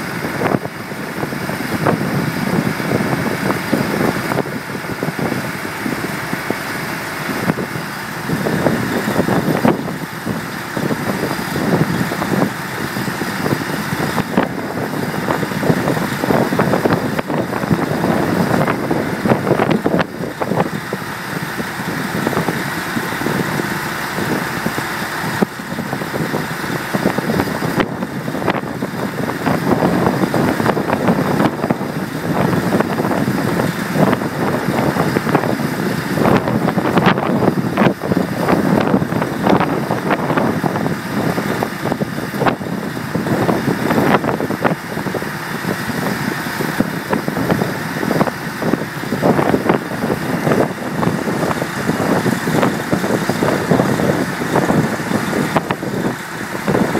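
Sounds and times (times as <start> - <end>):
rig engine running: 0.0 - 56.9.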